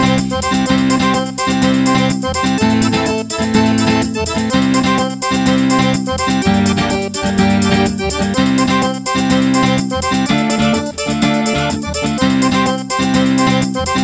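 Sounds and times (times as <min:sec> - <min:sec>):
keyboard tune with chords: 0:00.0 - 0:14.0
steady beat: 0:00.0 - 0:14.0.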